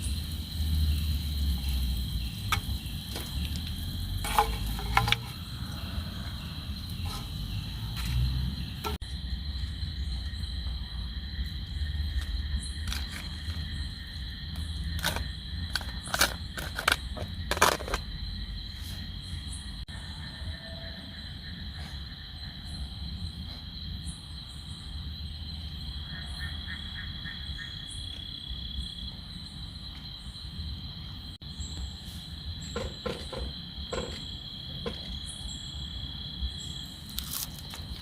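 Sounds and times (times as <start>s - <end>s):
night insects trilling: 0.0s - 38.0s.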